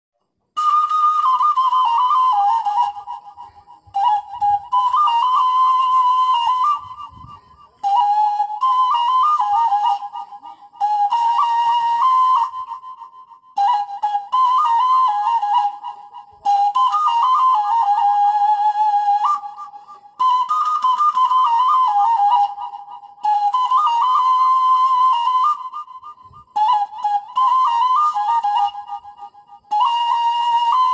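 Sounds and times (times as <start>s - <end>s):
bamboo flute melody: 0.4s - 30.9s.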